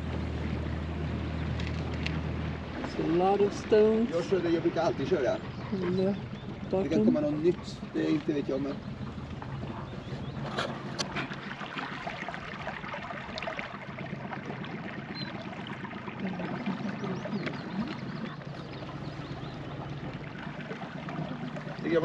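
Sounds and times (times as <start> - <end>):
low motor hum: 0.0 - 22.0
water splashing along boat hull: 0.0 - 22.0.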